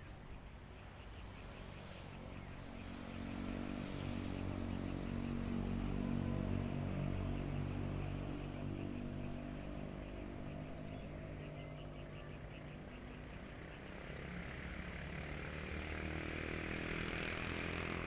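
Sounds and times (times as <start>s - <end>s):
motor engine drone: 0.0s - 18.0s.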